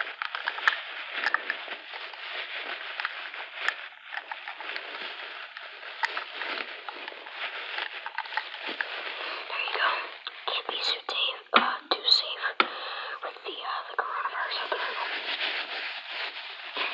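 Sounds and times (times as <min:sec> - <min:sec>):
wrapping crinkling and rustling: 0:00.0 - 0:16.9.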